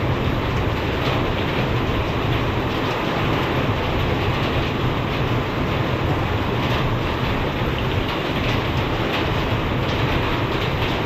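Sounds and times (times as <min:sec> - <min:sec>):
heavy rain: 0:00.0 - 0:11.0
high wind: 0:00.0 - 0:11.0.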